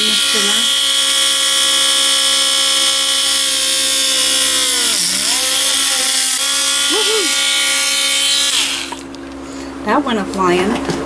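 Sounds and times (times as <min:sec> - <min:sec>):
rotary tool whining: 0:00.0 - 0:09.2.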